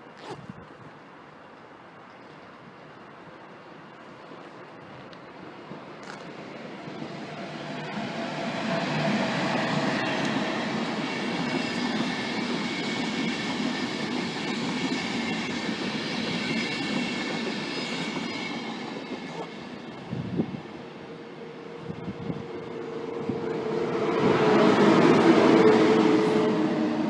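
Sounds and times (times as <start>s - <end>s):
train passing: 2.8s - 27.0s.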